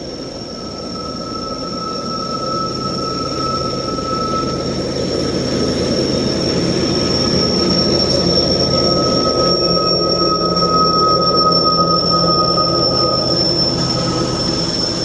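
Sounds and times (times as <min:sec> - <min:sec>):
train wheel squeal: 0:00.0 - 0:15.0
freight train rolling past: 0:00.5 - 0:15.0.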